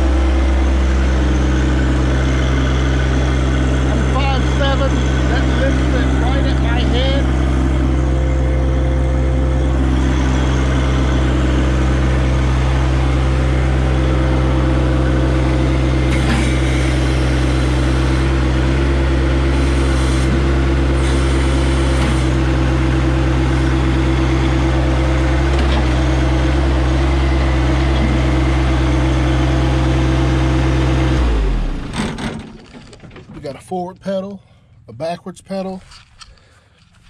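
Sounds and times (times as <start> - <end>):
tractor diesel engine running: 0.0 - 34.8.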